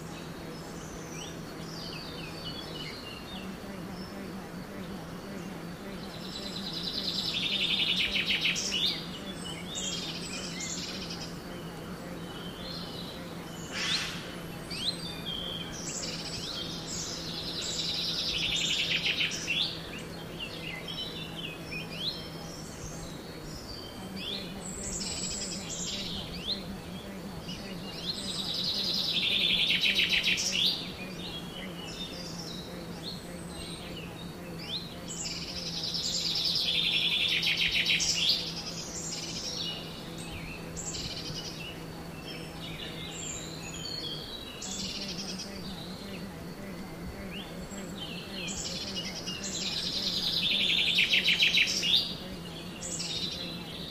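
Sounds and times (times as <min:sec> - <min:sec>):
faint low hum: 0:00.0 - 0:53.9
bird trilling song phrases: 0:00.2 - 0:53.9.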